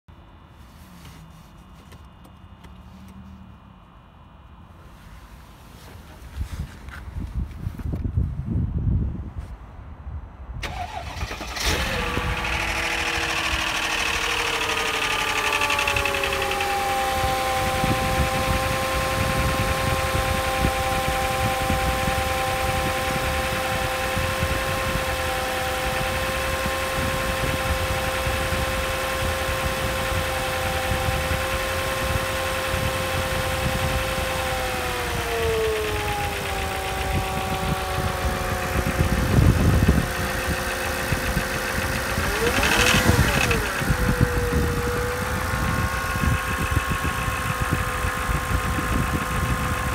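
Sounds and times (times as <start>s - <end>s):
engine whine: 0.0s - 49.9s
car engine starting and idling: 0.1s - 7.2s, 10.5s - 49.9s.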